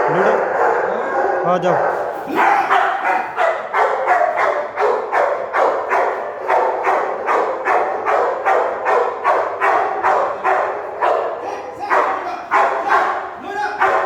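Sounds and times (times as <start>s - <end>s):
dog barking rapidly: 0.0s - 14.0s.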